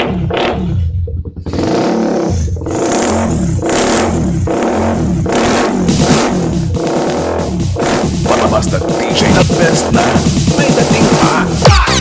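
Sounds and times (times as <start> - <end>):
bass-heavy electronic music: 0.0 - 12.0.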